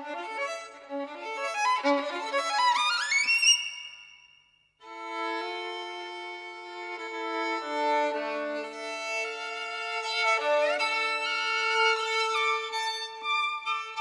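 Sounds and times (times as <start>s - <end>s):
slow violin music: 0.0s - 4.2s, 4.8s - 14.0s.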